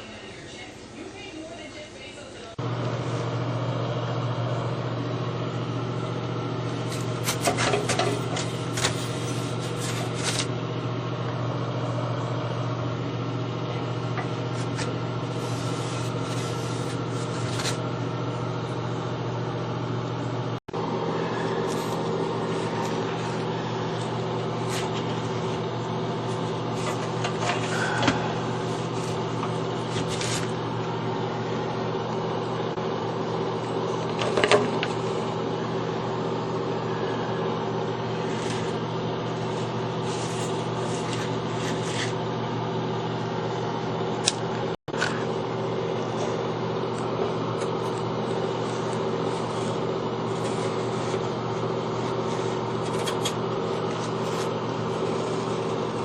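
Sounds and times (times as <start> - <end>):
electric motor humming: 2.6 - 20.0, 20.8 - 42.3, 45.0 - 56.0.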